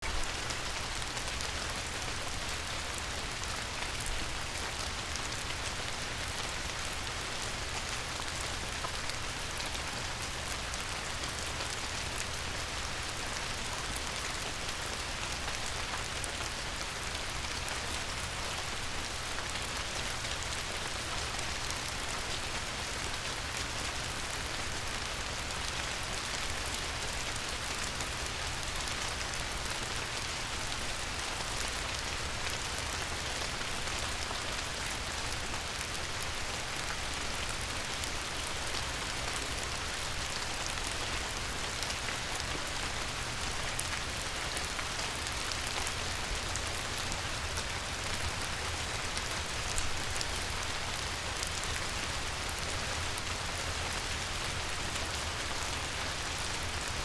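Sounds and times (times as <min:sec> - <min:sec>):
light rain on a river: 0:00.0 - 0:57.0.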